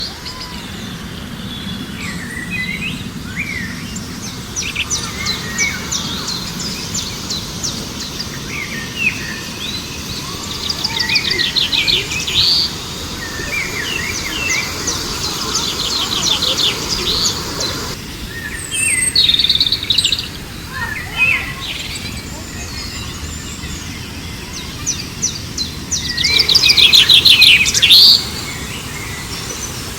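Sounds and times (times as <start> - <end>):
birds chirping and singing: 0.0 - 29.9
background hiss: 1.0 - 29.9.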